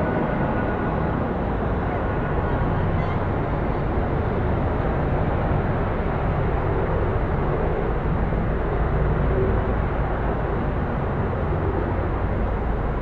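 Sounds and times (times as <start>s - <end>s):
city background hum: 0.0s - 13.0s
helicopter rotor drone: 0.0s - 13.0s.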